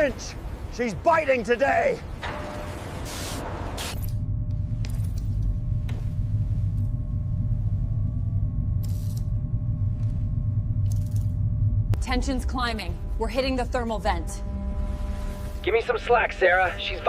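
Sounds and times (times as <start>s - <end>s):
faint hum: 1.8s - 17.0s.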